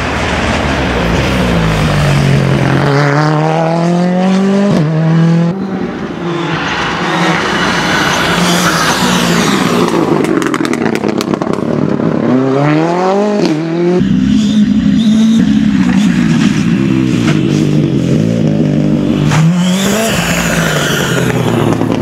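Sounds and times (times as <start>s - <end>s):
rally car engine accelerating: 1.7s - 22.0s.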